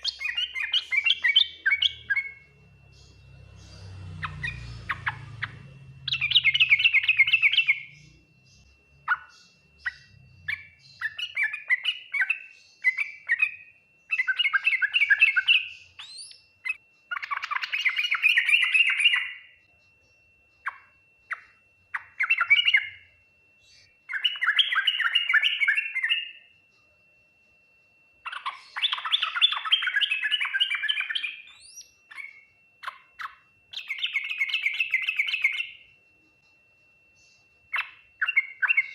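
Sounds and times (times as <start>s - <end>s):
bulbul singing: 0.0s - 38.9s
faint high whine: 0.0s - 38.9s.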